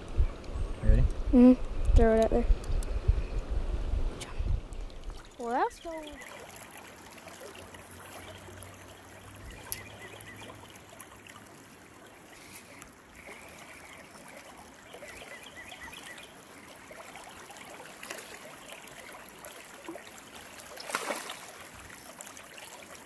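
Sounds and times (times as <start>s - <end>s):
stream water flowing: 4.1s - 23.0s.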